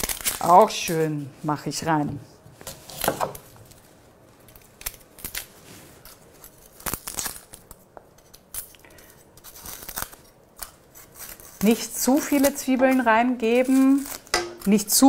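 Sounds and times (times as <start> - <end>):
dry onion skin crinkling: 0.0 - 1.6, 2.6 - 15.0.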